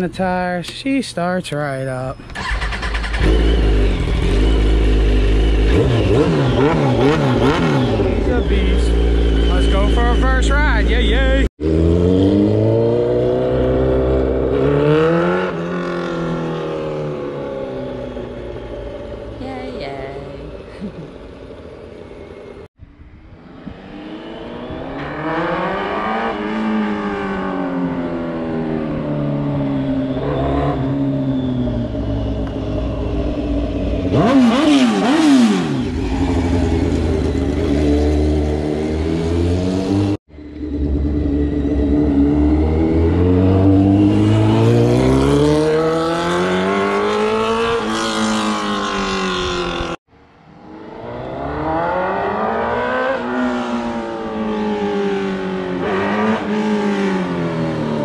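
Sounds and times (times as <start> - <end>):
motorcycle accelerating through gears: 2.4 - 22.7, 23.3 - 58.0.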